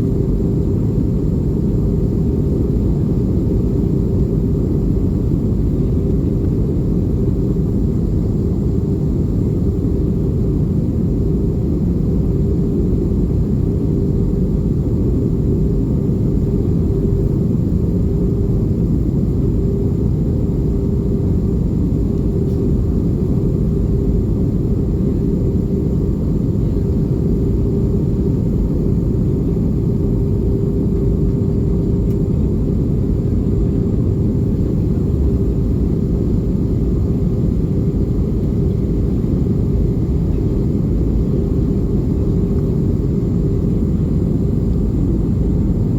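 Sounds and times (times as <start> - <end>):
faint steady hum: 0.0 - 45.9
jet engine and airflow rumble: 0.0 - 45.9.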